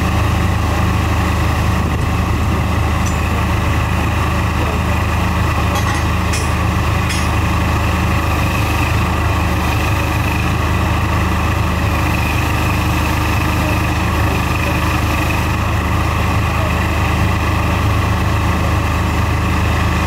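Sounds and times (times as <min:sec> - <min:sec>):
engine and air compressor drone: 0:00.0 - 0:20.0.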